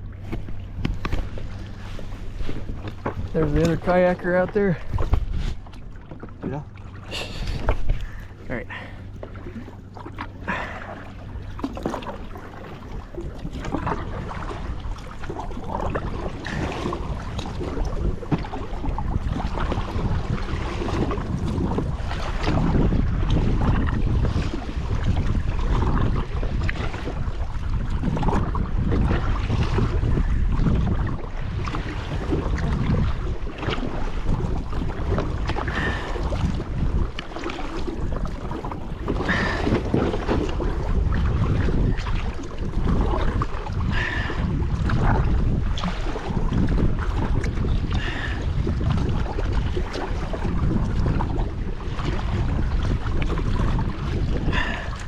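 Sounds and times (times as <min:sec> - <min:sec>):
kayak paddles splashing water: 0:00.0 - 0:55.0
wind buffeting microphone: 0:00.0 - 0:55.0.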